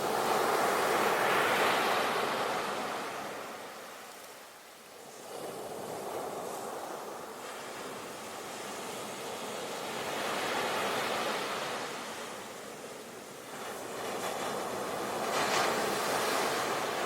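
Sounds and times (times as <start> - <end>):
sea waves on shore: 0.0 - 4.2, 5.0 - 17.0.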